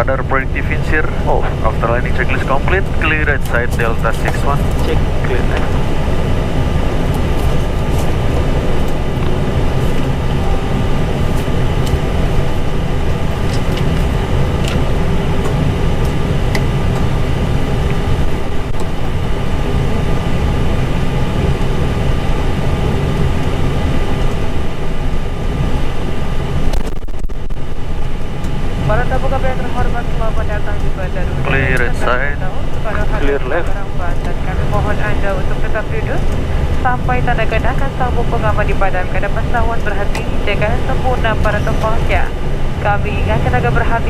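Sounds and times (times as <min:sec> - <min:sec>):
aircraft cockpit rumble and hum: 0:00.0 - 0:44.0.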